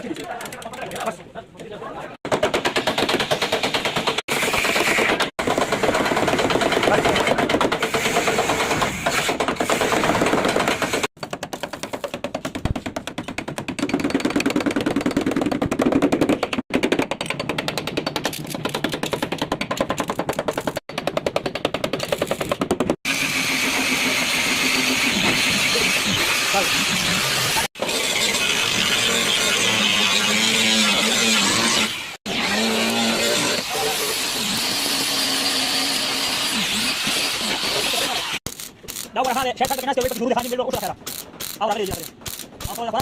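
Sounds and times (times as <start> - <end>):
power tool hammering rapidly: 2.2 - 43.0.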